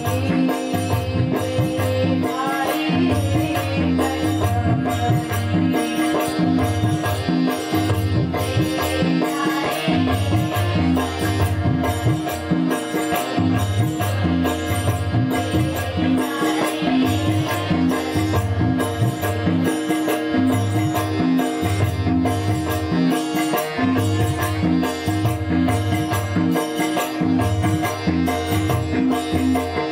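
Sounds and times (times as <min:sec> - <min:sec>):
jingling hand percussion: 0:00.0 - 0:29.9.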